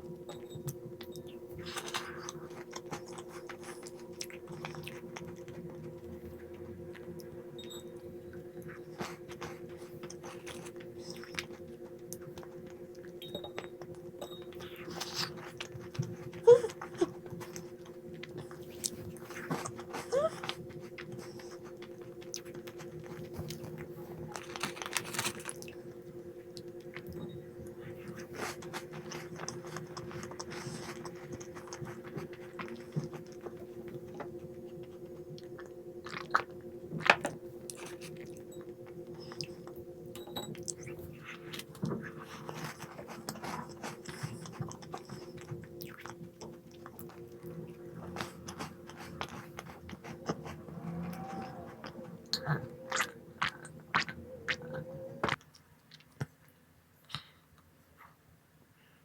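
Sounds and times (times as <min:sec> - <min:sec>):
steady hum: 0:00.0 - 0:55.6
person chewing crunchy snacks: 0:00.5 - 0:07.4, 0:08.5 - 0:56.5.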